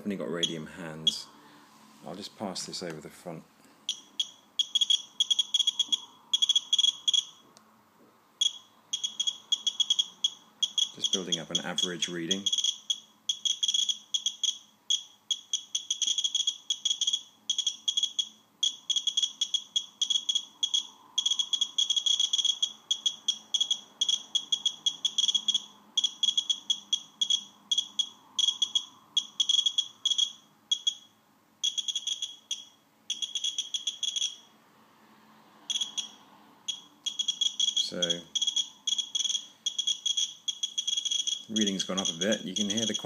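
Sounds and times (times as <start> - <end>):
geiger counter clicking: 3.9 - 7.4, 8.4 - 34.4, 35.7 - 43.0
short high-pitched beeps: 3.9 - 7.4, 8.4 - 34.5, 35.7 - 43.0.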